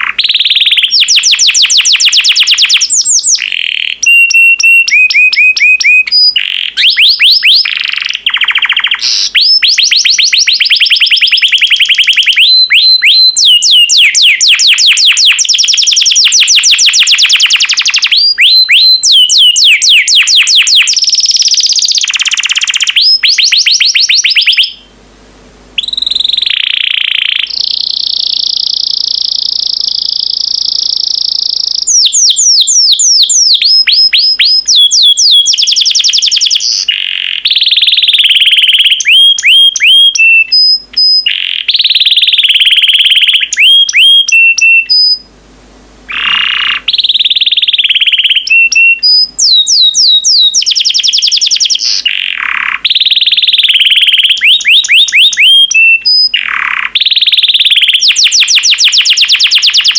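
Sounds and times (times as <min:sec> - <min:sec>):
canary singing trills: 0:00.0 - 0:25.0, 0:25.8 - 0:45.3, 0:46.1 - 0:59.9.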